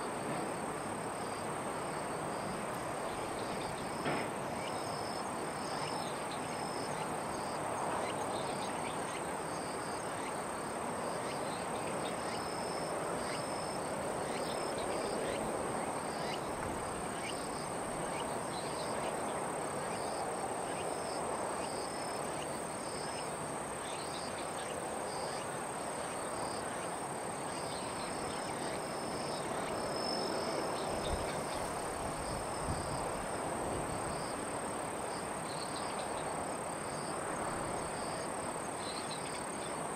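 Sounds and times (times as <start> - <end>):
background hiss: 0.0 - 39.9
high-pitched insect trill: 1.2 - 39.9.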